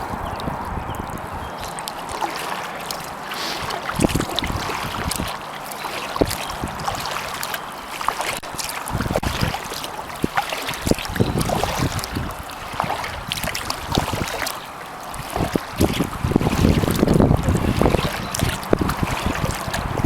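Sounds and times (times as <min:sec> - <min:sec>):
wind noise on microphone: 0:00.0 - 0:07.4, 0:08.4 - 0:20.0
kayak paddle splashing in water: 0:00.0 - 0:20.0
water dripping: 0:00.0 - 0:20.0.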